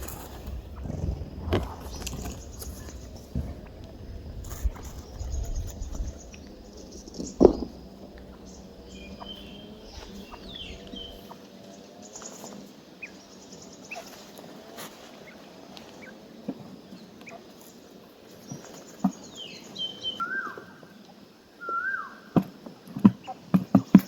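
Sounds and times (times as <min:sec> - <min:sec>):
birds chirping: 0:00.0 - 0:16.2, 0:16.8 - 0:21.0.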